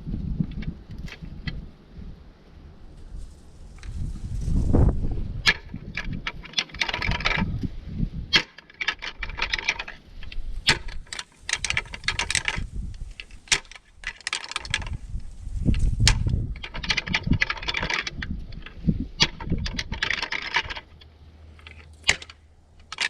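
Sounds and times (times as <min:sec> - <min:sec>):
wind gusting on microphone: 0:00.0 - 0:22.8
dry rustling and crackles: 0:00.0 - 0:23.0.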